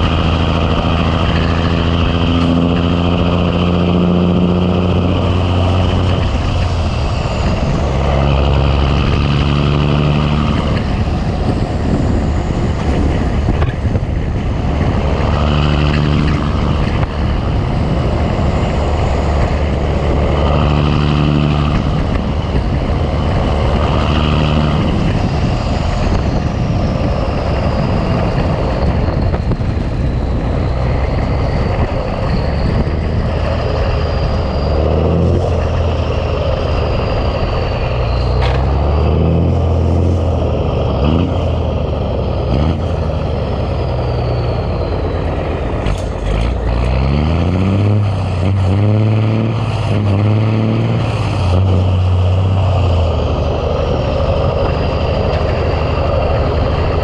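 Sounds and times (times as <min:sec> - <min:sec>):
constant low rumble: 0:00.0 - 0:57.0
diesel truck engine under load: 0:00.0 - 0:57.0.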